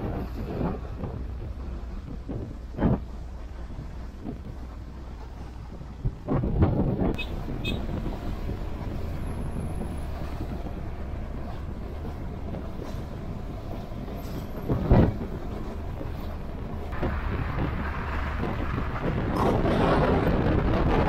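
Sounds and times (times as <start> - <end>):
motorcycle engine rumble: 0.0 - 21.0
rushing wind: 0.0 - 21.0.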